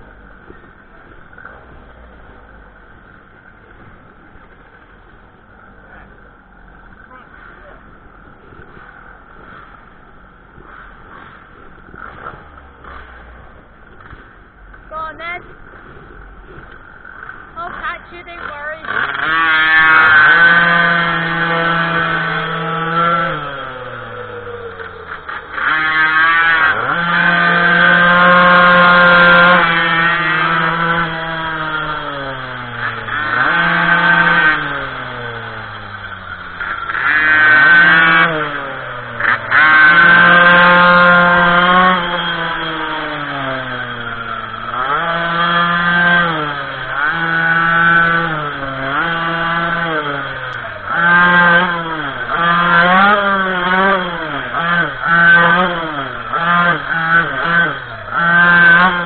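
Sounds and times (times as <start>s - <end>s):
small two-stroke engine revving: 0.0s - 59.0s.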